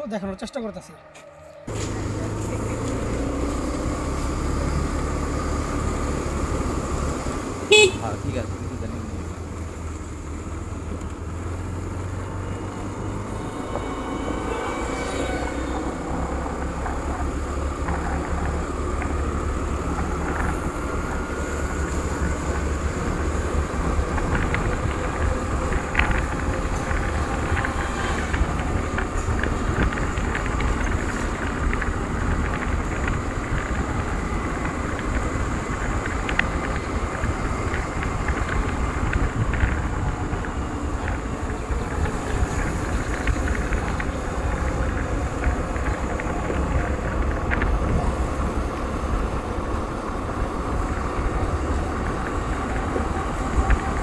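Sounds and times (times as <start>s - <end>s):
scooter engine whine: 0.6s - 54.0s
wind rumble on microphone: 1.7s - 54.0s.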